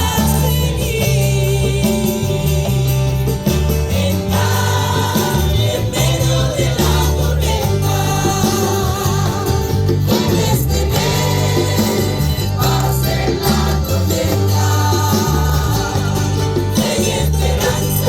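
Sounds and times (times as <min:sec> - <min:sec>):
band accompaniment bass and drums: 0:00.0 - 0:18.0
group singing worship song: 0:00.0 - 0:18.0.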